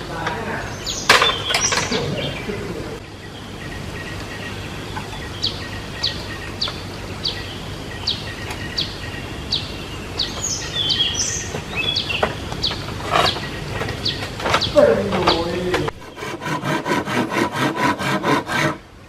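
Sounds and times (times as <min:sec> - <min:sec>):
bird chirping: 0:00.0 - 0:18.8.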